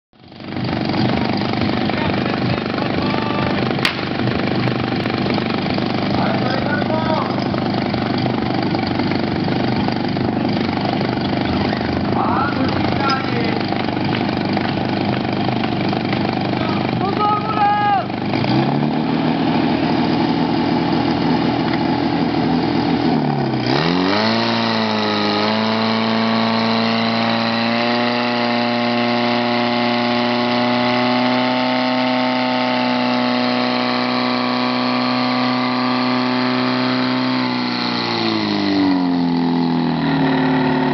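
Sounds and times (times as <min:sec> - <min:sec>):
pump engine running at high revs: 0:00.2 - 0:40.9.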